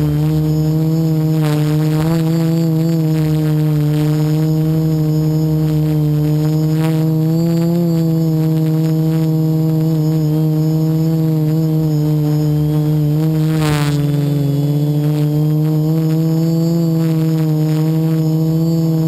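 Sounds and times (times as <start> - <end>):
drone propellers droning: 0.0 - 19.0.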